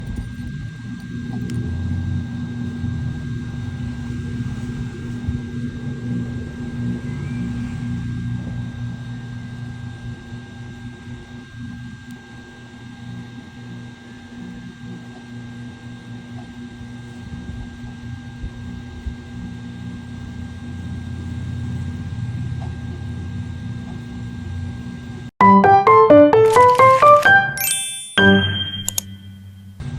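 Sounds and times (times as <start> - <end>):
mechanical hum: 0.0 - 25.3.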